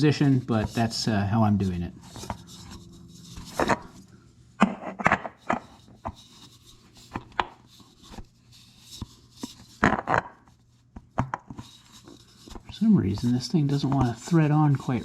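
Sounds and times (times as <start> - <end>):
oil filter clicking and scraping: 0.2 - 4.2, 4.8 - 15.0.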